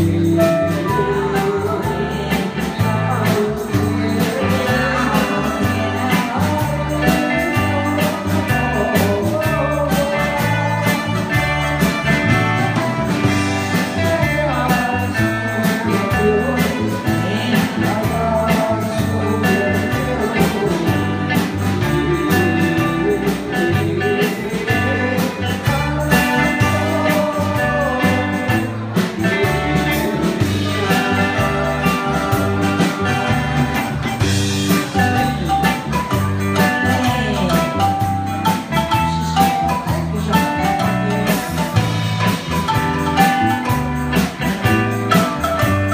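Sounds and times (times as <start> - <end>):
man and woman singing duet: 0.0 - 11.6, 13.9 - 35.9, 36.5 - 41.3
live band playing: 0.0 - 45.9.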